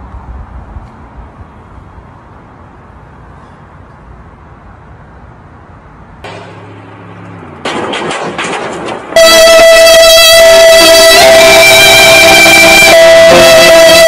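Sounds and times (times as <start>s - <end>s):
city street rumble: 0.0s - 14.0s.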